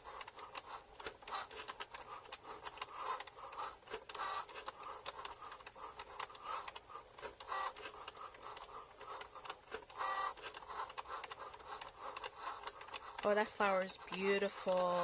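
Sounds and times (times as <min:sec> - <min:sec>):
cutting machine motors whirring: 0:00.0 - 0:15.0.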